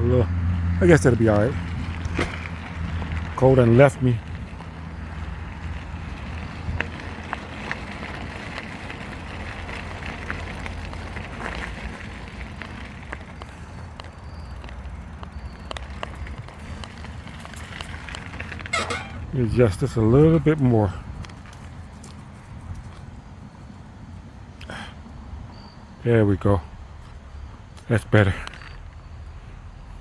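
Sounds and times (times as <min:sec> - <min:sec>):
bicycle tyre rumble: 0:00.4 - 0:25.9.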